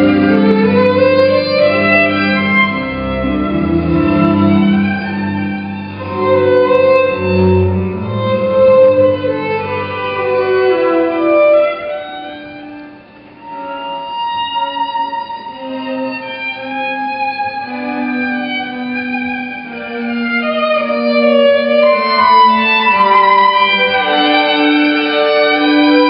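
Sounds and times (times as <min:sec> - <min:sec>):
violin playing slow held notes: 0:00.0 - 0:26.0.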